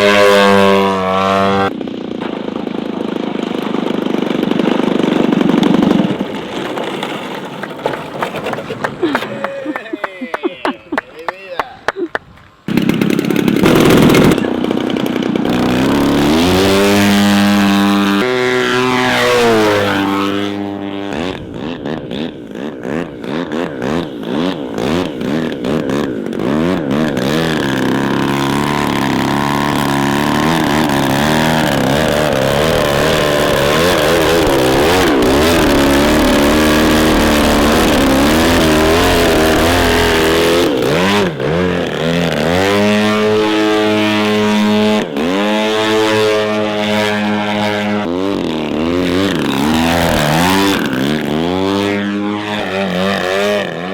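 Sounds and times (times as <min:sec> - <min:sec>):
model aeroplane petrol engine: 0:00.0 - 0:09.4, 0:12.6 - 0:53.9.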